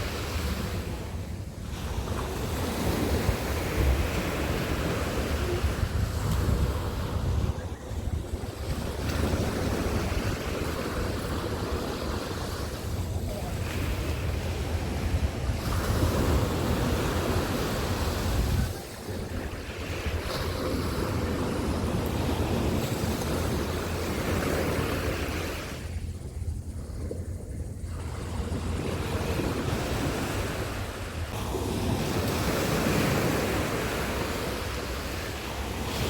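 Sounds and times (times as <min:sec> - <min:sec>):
sea waves breaking on beach: 0:00.0 - 0:36.0
wind buffeting microphone: 0:00.0 - 0:36.0.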